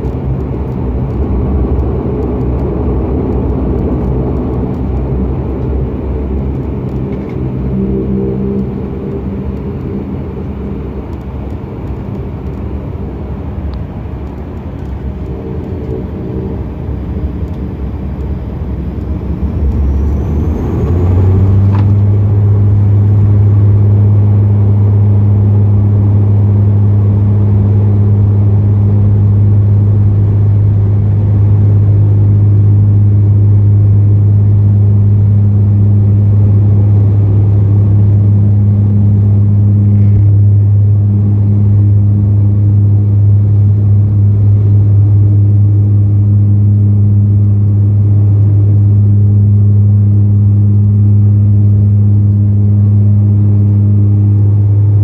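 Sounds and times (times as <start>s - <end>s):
rising turbine whine: 0.0s - 55.0s
turboprop engines droning: 0.0s - 55.0s.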